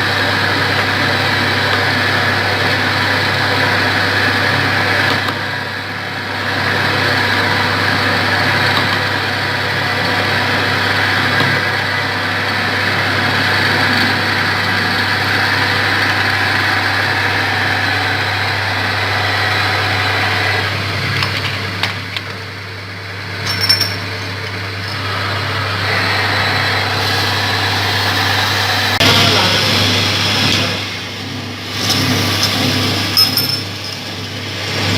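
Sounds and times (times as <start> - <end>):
lathe motor hum: 0.0 - 34.9.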